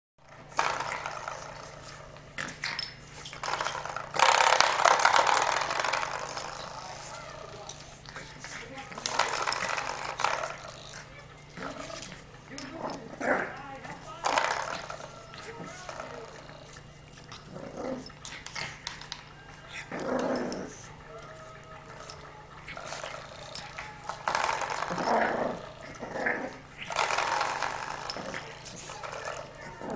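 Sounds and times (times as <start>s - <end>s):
puppy growling: 0.3s - 29.9s.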